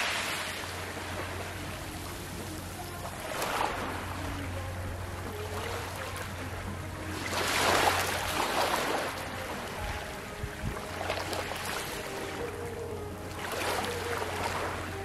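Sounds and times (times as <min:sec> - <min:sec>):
ripples lapping on pebble shore: 0:00.0 - 0:04.6, 0:05.2 - 0:12.6, 0:13.2 - 0:15.0
steady low hum: 0:00.0 - 0:15.0.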